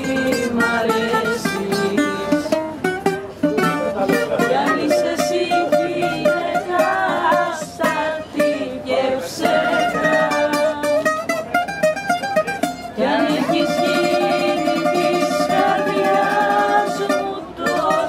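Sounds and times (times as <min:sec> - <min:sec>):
bouzouki picked melody: 0:00.0 - 0:18.0.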